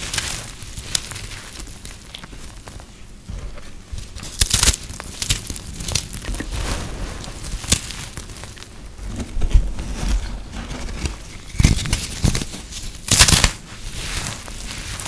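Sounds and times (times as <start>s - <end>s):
brittle soap crunching: 0.0s - 15.0s.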